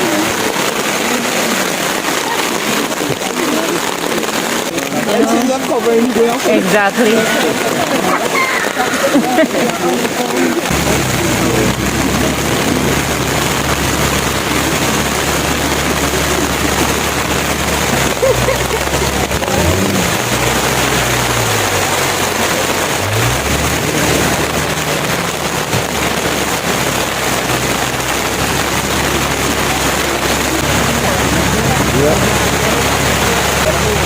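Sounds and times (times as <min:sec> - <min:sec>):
boat motor running: 0:00.0 - 0:34.0
hiss of wind and water: 0:00.0 - 0:34.0.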